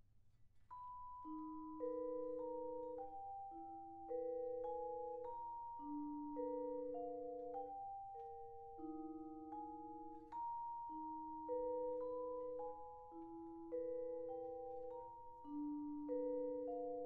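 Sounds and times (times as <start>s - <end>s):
vibraphone notes: 1.0s - 17.0s.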